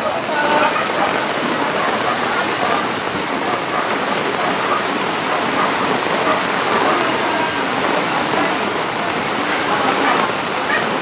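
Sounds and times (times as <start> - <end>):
heavy rain and floodwater rushing: 0.0 - 11.0.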